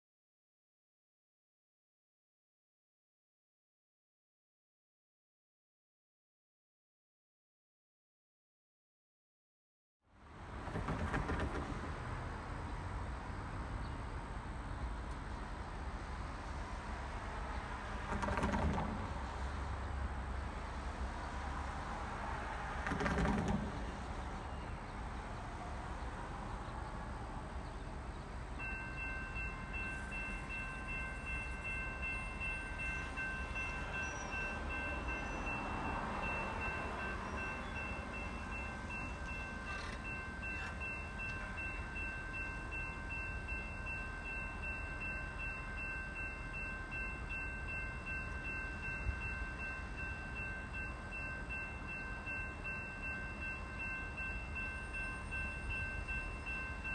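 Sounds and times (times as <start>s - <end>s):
train low rumble: 10.2s - 56.9s.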